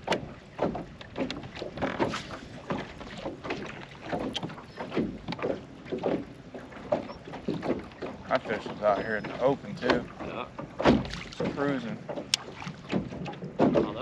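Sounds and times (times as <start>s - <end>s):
water lapping against boat hull: 0.0s - 14.0s.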